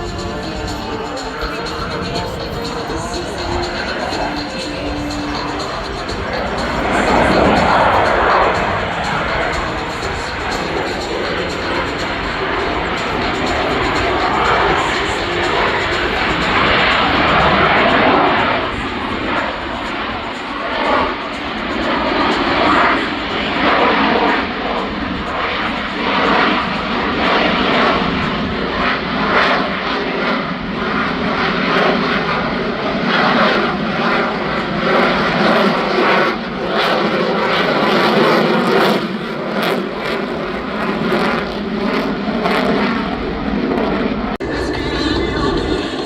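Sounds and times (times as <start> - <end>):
airplane engine noise: 0.0 - 46.0.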